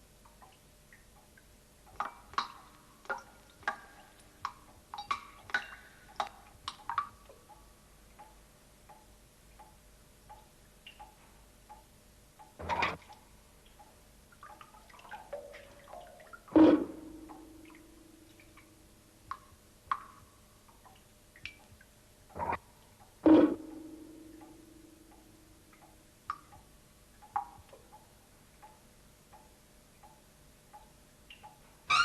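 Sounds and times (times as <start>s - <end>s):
water dripping: 0.1s - 32.0s.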